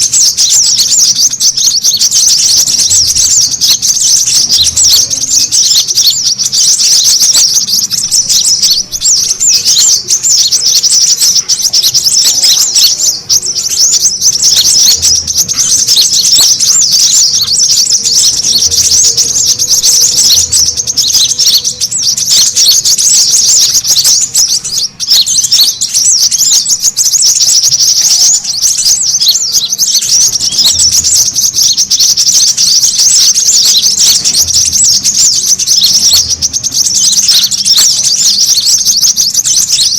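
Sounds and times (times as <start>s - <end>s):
birds chattering noisily: 0.0s - 39.9s.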